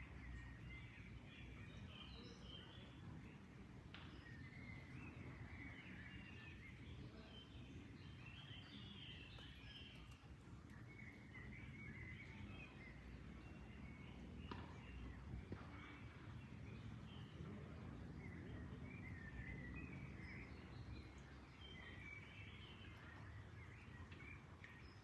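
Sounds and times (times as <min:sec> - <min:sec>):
faint songbirds chirping: 0:00.0 - 0:25.0.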